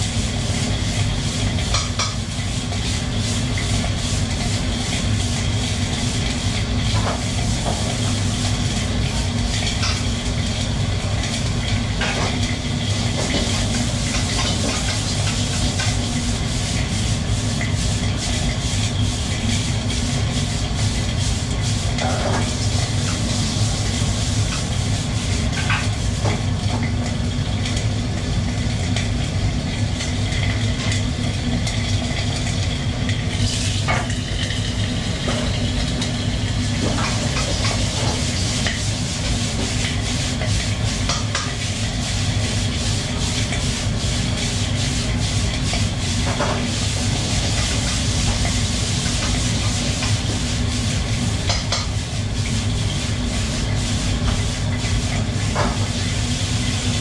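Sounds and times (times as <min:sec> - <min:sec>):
food sizzling in a wok: 0:00.0 - 0:57.0
low rush of burner and hood: 0:00.0 - 0:57.0.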